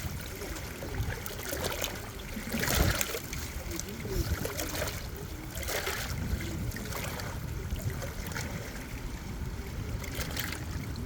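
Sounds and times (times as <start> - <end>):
water rushing: 0.0 - 11.0
water splashes: 0.0 - 11.0.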